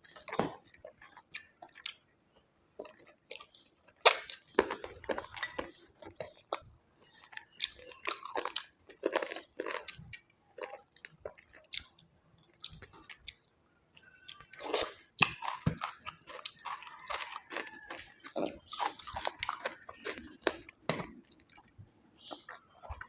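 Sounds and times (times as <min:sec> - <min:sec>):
crunching crisp food: 0:02.8 - 0:23.0.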